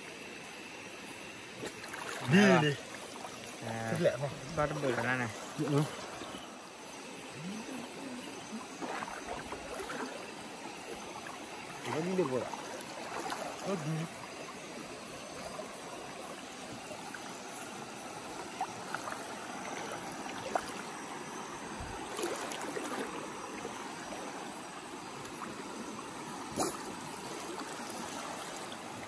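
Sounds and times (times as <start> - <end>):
stream water flowing over rocks: 0.0 - 29.0.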